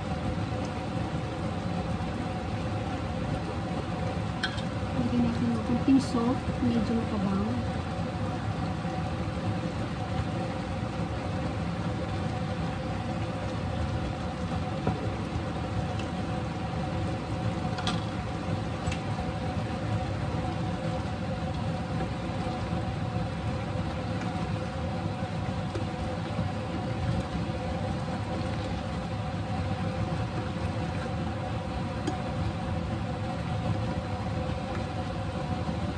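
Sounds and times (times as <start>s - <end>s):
kitchen fan whirring: 0.0s - 35.9s.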